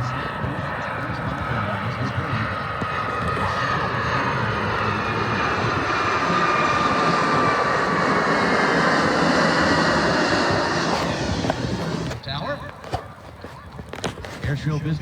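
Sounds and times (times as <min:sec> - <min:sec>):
jet airplane flying past: 0:00.0 - 0:13.2.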